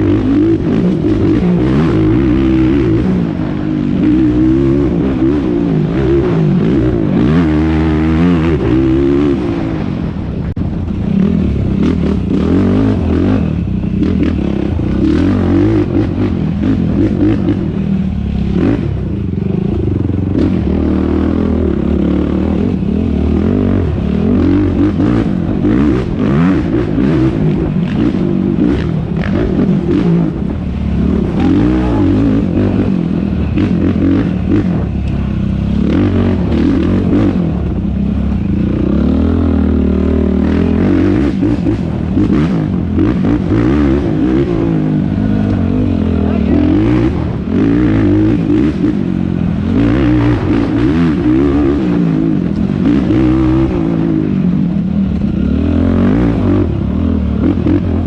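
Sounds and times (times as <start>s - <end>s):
quad engine revving: 0.0s - 10.3s, 10.9s - 58.0s.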